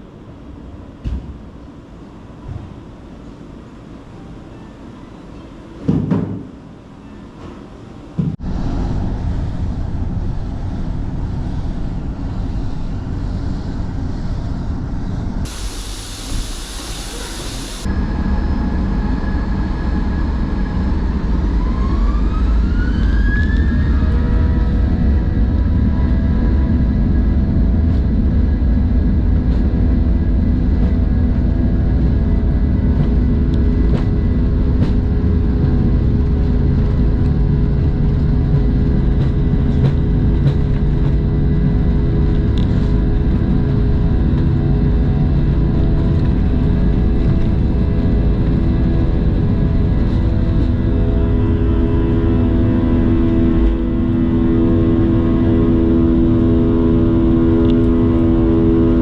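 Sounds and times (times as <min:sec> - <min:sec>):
steady hums: 0:08.1 - 0:21.6, 0:24.1 - 0:59.0
vehicle engine drone: 0:08.4 - 0:59.0.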